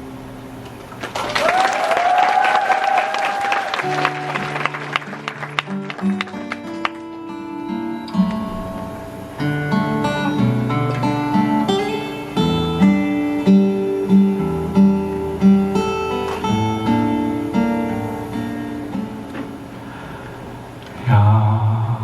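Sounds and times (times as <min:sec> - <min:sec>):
acoustic guitar strummed and picked: 0:03.6 - 0:22.0.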